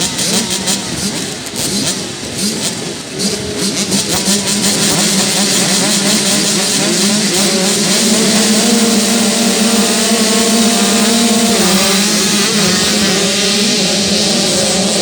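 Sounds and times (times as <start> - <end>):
dirt bike engines revving: 0.0 - 15.0
engine holding steady note: 0.0 - 15.0.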